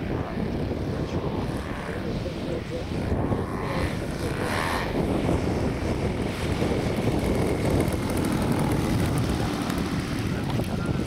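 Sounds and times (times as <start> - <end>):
model aircraft engines droning: 0.0 - 11.0
wind rumbling on microphone: 0.0 - 11.0.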